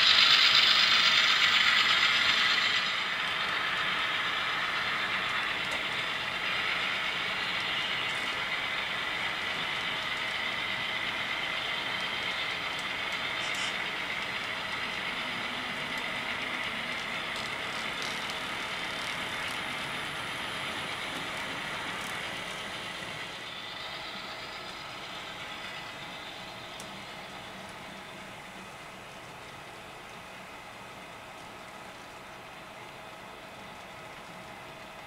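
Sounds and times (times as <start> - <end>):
model train wheels whirring: 0.0 - 35.0.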